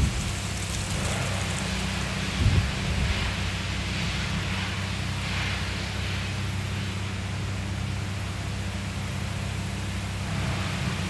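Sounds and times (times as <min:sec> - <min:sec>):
wind hissing in leaves: 0:00.0 - 0:11.0
wind rumble on microphone: 0:00.0 - 0:11.0.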